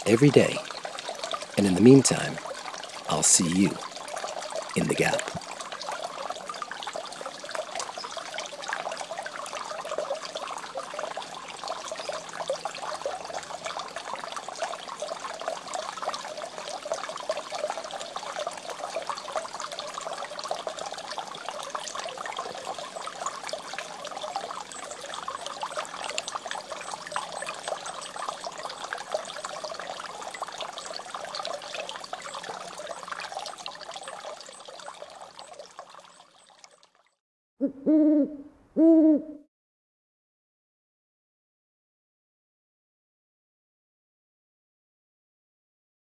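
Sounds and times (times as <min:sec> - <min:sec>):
water trickling and splashing: 0:00.0 - 0:37.2.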